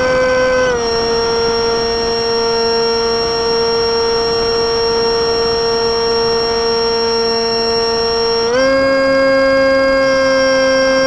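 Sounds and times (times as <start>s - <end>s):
model aircraft motor whine: 0.0s - 11.0s.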